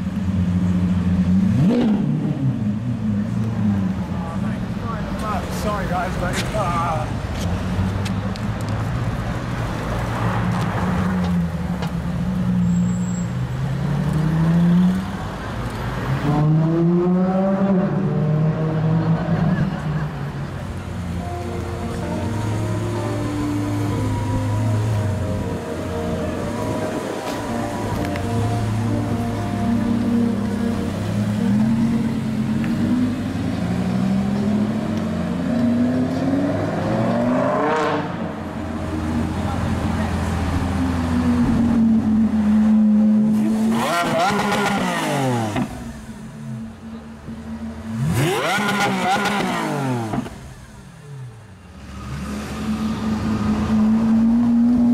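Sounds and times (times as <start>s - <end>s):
sports car engine accelerating: 0.2s - 4.0s, 13.7s - 54.9s.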